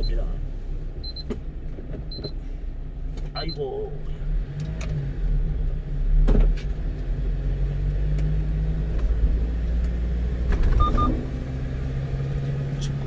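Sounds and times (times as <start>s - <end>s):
truck engine and road hum: 0.0s - 13.0s.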